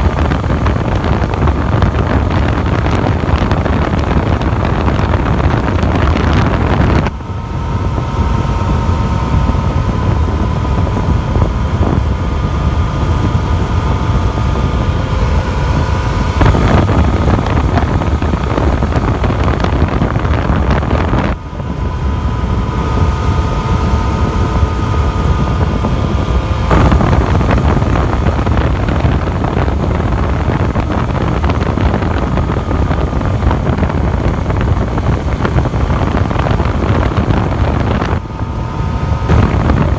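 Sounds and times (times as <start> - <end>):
faint steady whine: 0.0 - 39.9
motorcycle engine cruising: 0.0 - 39.9
wind rushing over microphone: 0.0 - 39.9.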